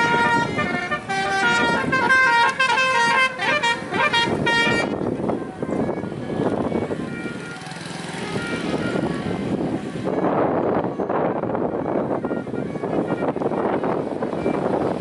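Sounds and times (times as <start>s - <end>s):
vehicle horn playing a tune: 0.0s - 9.4s, 11.8s - 15.0s
crowd noise: 0.0s - 15.0s
traffic: 0.0s - 15.0s.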